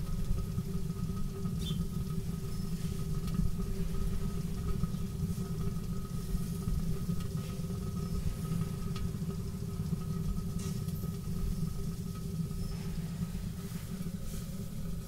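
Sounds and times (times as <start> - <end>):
faint hum: 0.0 - 15.0
fire burning rumble: 0.0 - 15.0.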